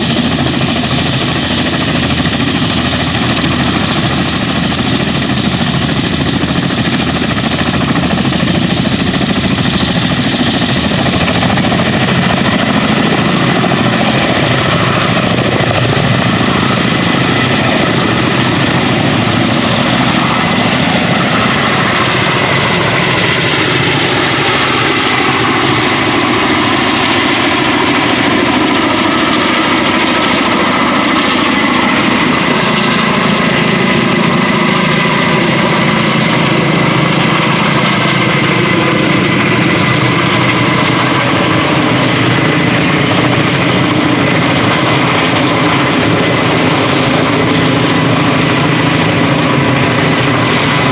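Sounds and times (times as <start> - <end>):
helicopter rotors and engines: 0.0 - 50.9
high turbine whine: 0.0 - 50.9.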